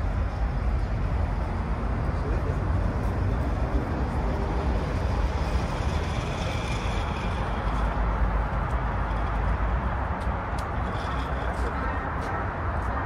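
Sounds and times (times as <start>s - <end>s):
outdoor noise with low rumble: 0.0s - 13.0s.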